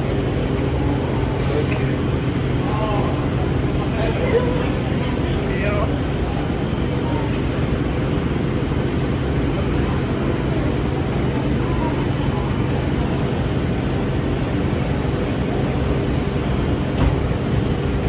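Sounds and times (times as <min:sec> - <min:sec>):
electric train equipment humming: 0:00.0 - 0:18.0.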